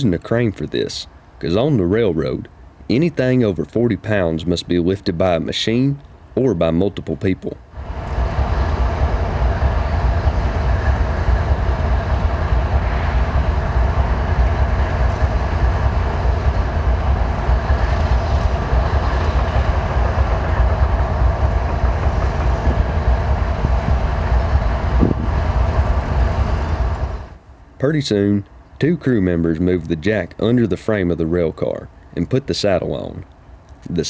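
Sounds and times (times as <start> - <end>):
constant hiss: 0.0 - 34.0.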